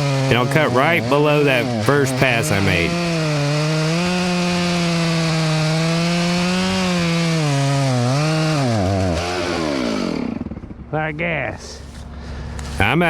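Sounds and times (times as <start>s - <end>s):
chainsaw cutting wood: 0.0s - 10.8s.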